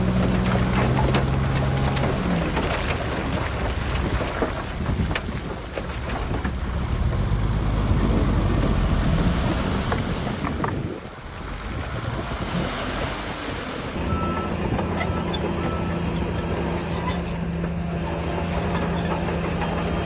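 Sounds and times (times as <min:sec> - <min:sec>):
diesel earthmoving machinery running: 0:00.0 - 0:20.0.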